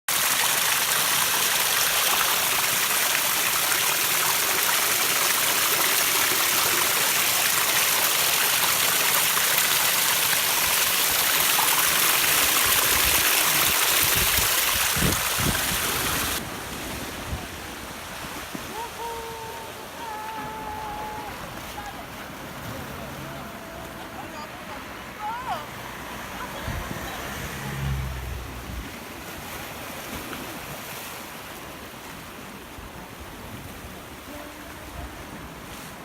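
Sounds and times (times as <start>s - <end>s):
water rushing over rocks: 0.1s - 36.0s.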